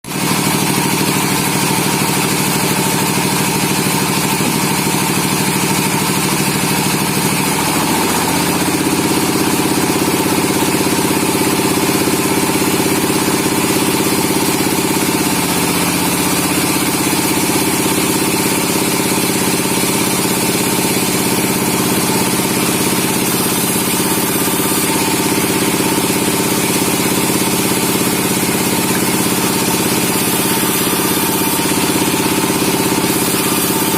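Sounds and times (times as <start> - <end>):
sawmill engine running: 0.1 - 33.9.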